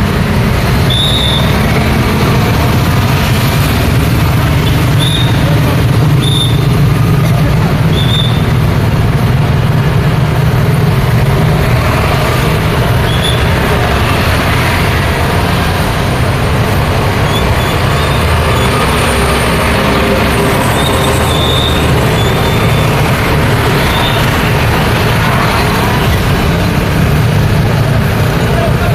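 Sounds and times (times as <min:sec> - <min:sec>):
deep engine rumble: 0:00.0 - 0:28.9
passing road traffic: 0:00.0 - 0:28.9.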